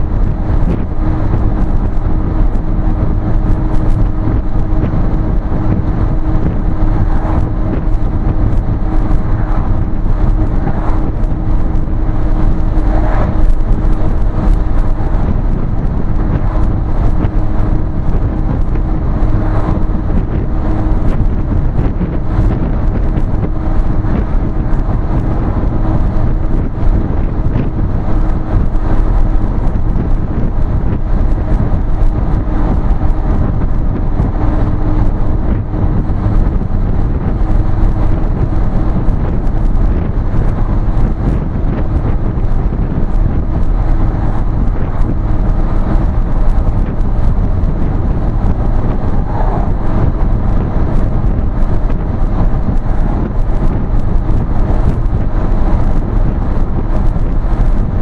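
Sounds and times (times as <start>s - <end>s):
constant low hum: 0.0s - 58.0s
vehicle engine and road noise: 0.0s - 58.0s.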